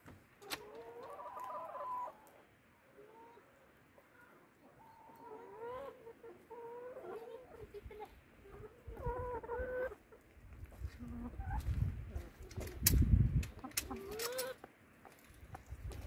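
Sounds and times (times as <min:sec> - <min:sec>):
hens clucking: 0:00.4 - 0:16.0.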